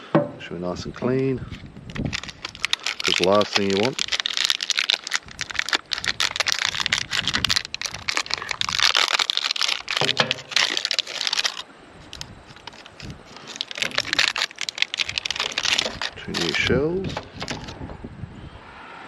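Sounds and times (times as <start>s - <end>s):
plastic packaging crinkling: 1.9s - 17.8s.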